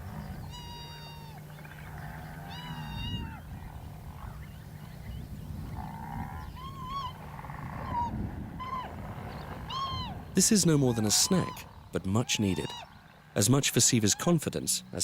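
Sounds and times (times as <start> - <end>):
animal high arching calls: 0.0 - 3.6, 5.8 - 15.0.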